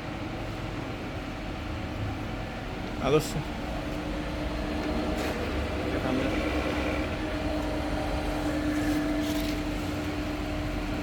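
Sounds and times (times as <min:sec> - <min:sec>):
milling machine humming and whining: 0:00.0 - 0:11.0.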